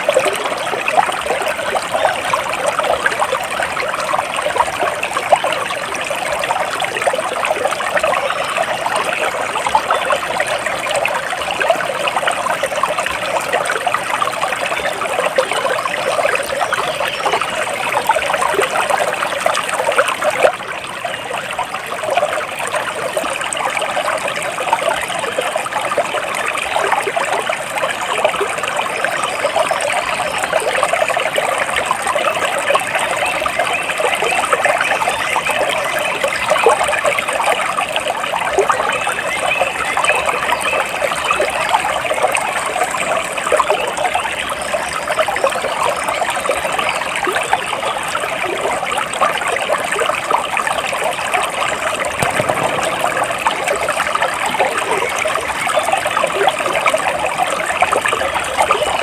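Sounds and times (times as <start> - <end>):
small water splashes: 0.0 - 59.0
water flowing and trickling: 0.0 - 59.0.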